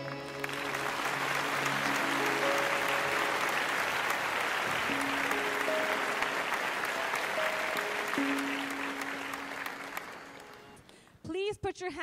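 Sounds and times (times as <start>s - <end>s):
audience applauding: 0.0s - 10.8s
long held instrumental notes: 0.0s - 10.9s.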